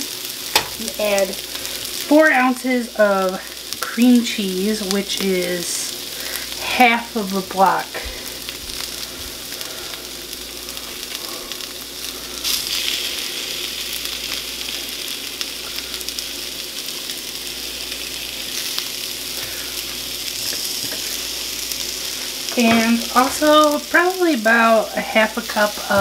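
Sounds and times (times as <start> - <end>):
vegetables sizzling in a skillet: 0.0 - 26.0.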